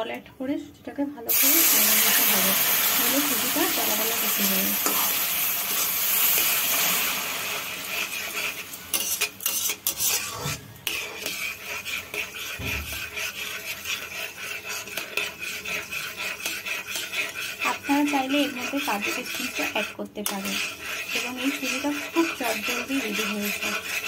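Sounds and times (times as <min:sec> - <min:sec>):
hot pan sizzling: 0:01.3 - 0:24.0
metal spatula scraping pan: 0:01.3 - 0:24.0.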